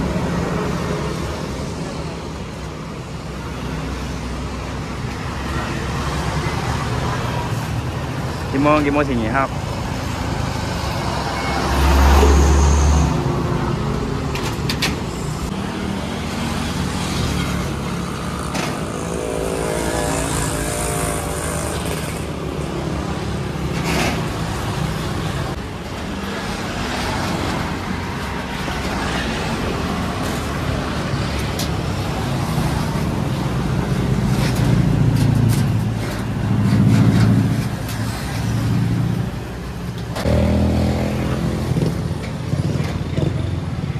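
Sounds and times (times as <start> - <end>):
passing cars and motorbikes: 3.4 - 43.9.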